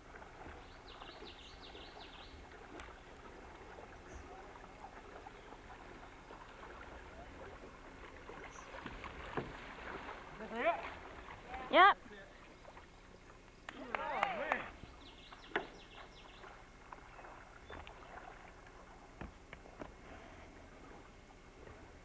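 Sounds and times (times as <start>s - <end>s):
paddles splashing in water: 0.0s - 22.0s.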